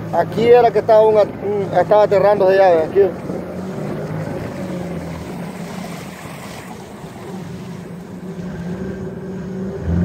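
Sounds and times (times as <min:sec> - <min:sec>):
outboard motor running: 0:00.0 - 0:10.0
water washing along hull: 0:00.0 - 0:10.0.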